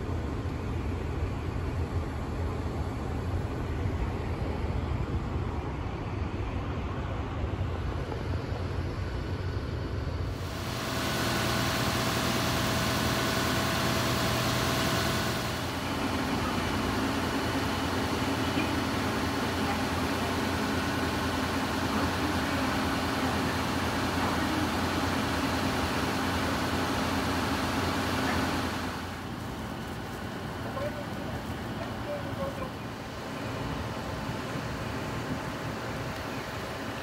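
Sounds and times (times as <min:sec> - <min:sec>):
idling engines and street traffic: 0:00.0 - 0:37.0.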